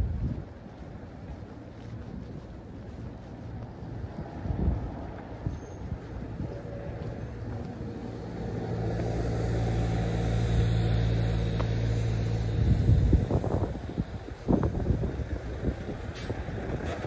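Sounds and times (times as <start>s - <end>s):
irregular low rumbling: 0.0s - 17.0s
vehicle engine humming: 0.0s - 17.0s.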